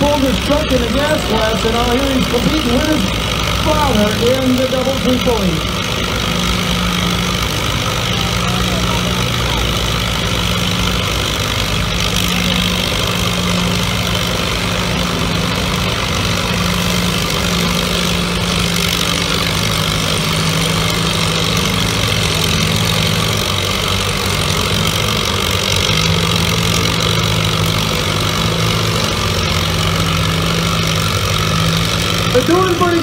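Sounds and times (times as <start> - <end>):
tractor engines idling: 0.0 - 33.0.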